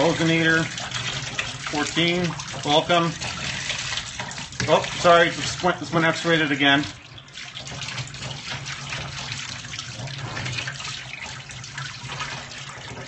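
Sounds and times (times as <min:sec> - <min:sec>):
water splashing on dog: 0:00.0 - 0:13.0
water spraying from sink sprayer: 0:00.0 - 0:13.0.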